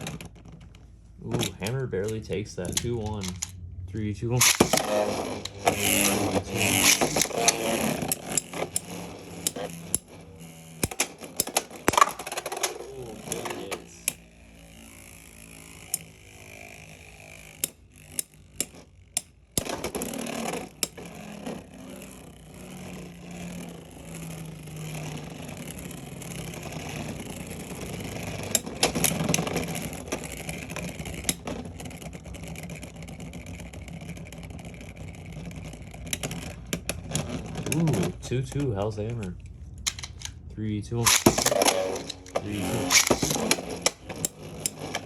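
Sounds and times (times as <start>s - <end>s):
spinning tops whirring: 0.0s - 45.0s
spinning tops clacking together: 4.4s - 37.6s, 38.8s - 45.0s.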